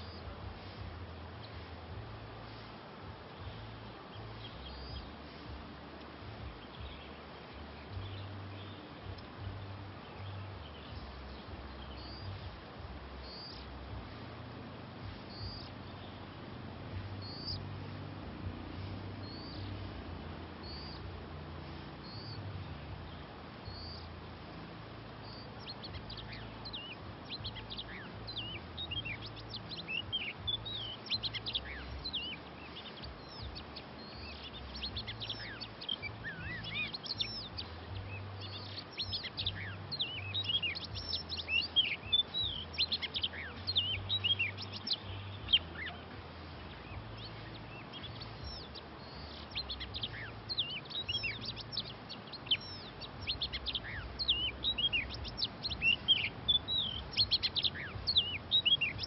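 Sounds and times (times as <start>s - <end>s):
birds chirping and whistling: 0.0s - 59.0s.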